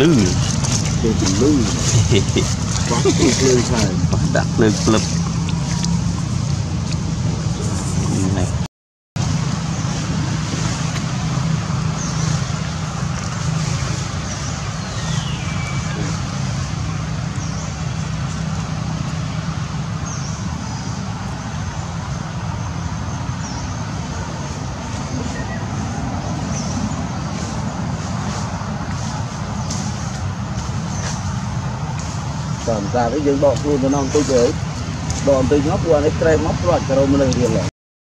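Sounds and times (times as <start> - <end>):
low motor rumble: 0.0 - 37.7.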